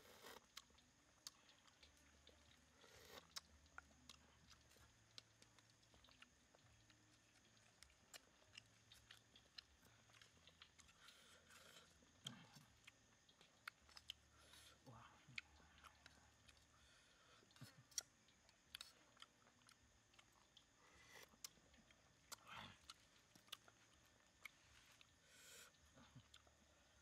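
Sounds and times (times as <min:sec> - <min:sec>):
faint chewing: 0:00.0 - 0:27.0.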